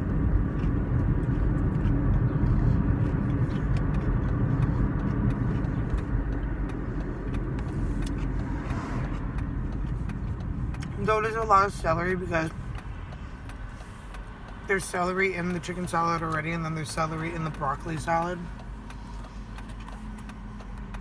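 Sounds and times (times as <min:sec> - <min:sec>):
car cabin rumble: 0:00.0 - 0:21.0.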